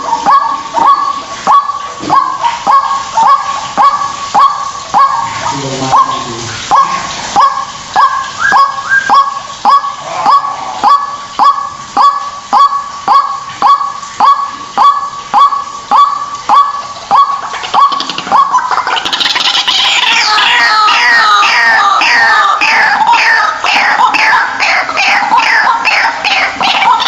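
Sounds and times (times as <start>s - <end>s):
waterhen honking call: 0.0s - 27.0s.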